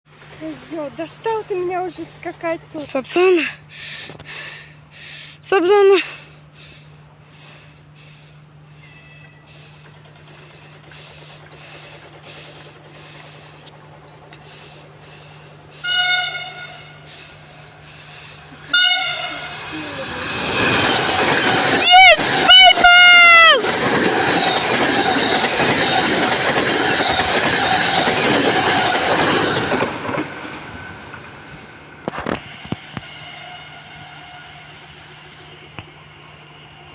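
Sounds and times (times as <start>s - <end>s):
train passing wheels on rail: 0.1s - 36.9s.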